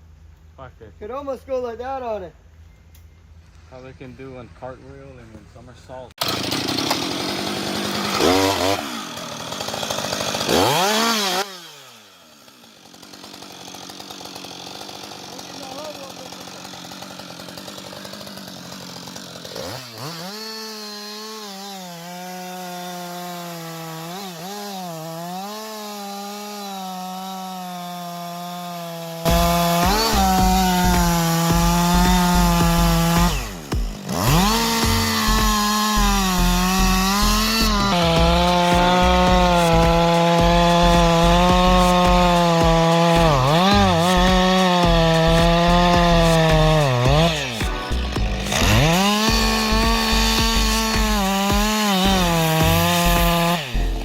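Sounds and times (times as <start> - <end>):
chainsaw cutting wood: 6.2 - 54.0.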